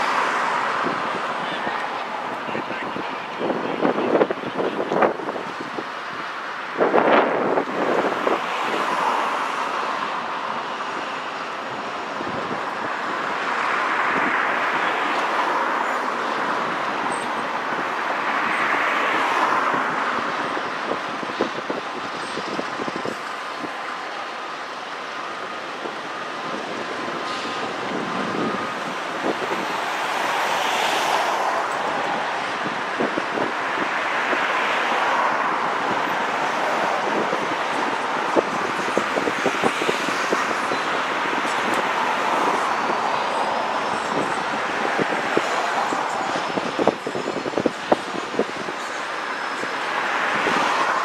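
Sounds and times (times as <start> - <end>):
wind on the microphone: 0.0 - 15.3, 16.1 - 23.9, 25.8 - 51.0
freight cars rolling on rails: 0.0 - 51.0.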